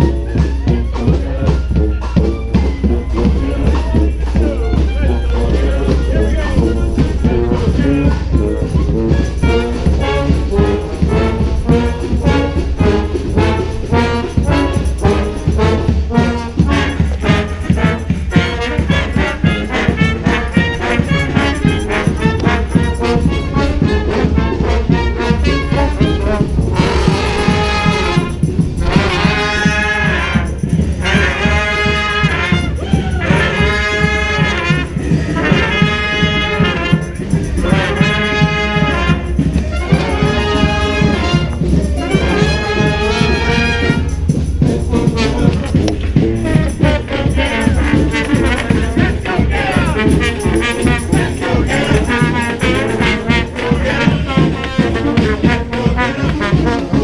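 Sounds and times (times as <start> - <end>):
brass band playing: 0.0 - 57.0
drums: 0.0 - 57.0
horns playing: 0.0 - 57.0.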